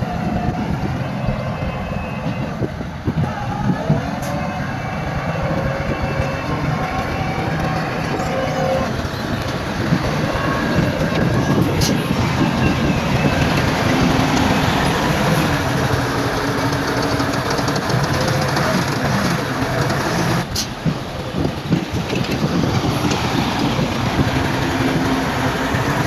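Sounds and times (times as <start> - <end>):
bulldozer diesel engine running: 0.0 - 26.0
crawler tracks clanking: 0.0 - 26.0.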